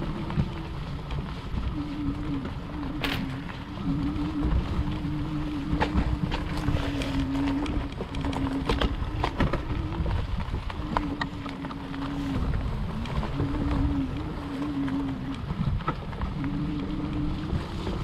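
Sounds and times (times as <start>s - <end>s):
electric hub motor whining: 0.0s - 18.0s
wind rumble on microphone: 0.0s - 18.0s.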